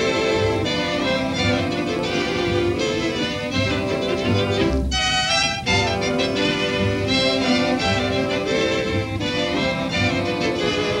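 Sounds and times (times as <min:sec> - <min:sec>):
orchestral string music: 0:00.0 - 0:11.0.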